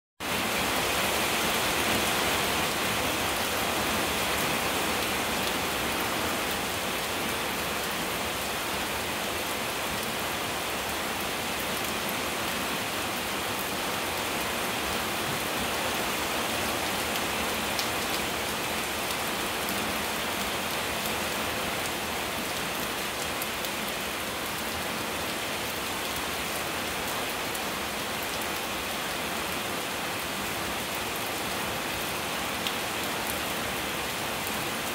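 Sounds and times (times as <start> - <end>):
heavy rain on pavement and leaves: 0.2 - 34.9.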